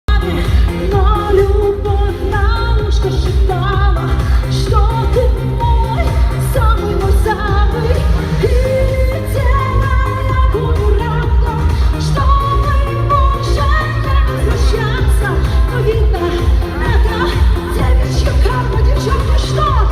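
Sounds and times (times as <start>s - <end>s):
backing track with heavy bass beat: 0.1s - 19.9s
woman singing: 0.1s - 19.9s.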